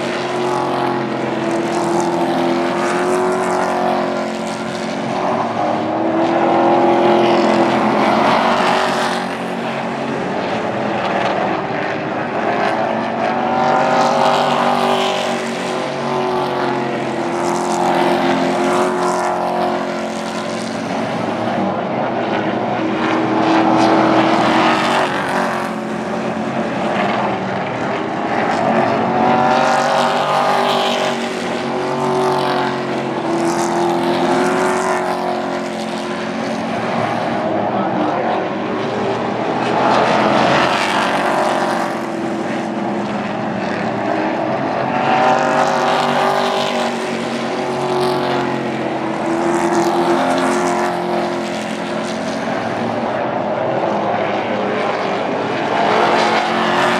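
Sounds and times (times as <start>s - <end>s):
racing truck engines passing: 0.0s - 56.9s.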